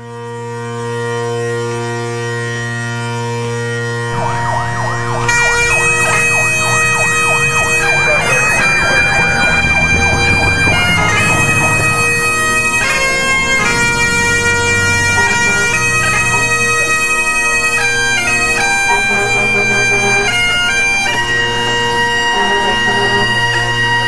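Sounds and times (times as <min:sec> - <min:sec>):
bagpipes playing: 0:00.1 - 0:24.0
fire engine siren yelping: 0:04.0 - 0:24.0.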